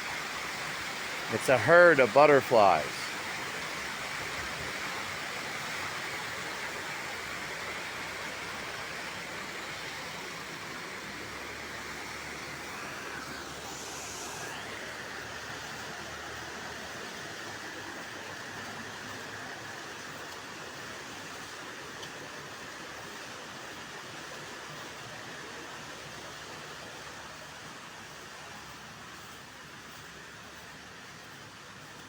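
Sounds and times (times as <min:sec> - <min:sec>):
stream water rushing: 0:00.0 - 0:28.5.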